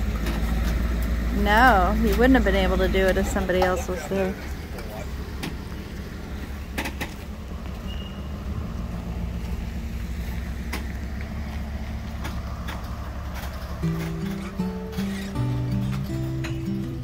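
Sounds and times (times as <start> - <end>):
pickup engine rumble: 0.0 - 17.0.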